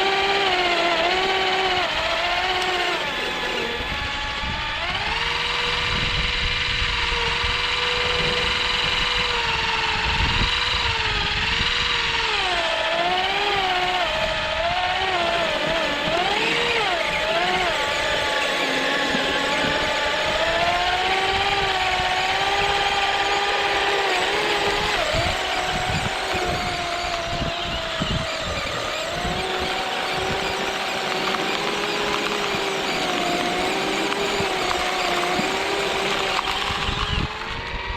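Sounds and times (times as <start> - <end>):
electric motors whining: 0.0 - 37.9.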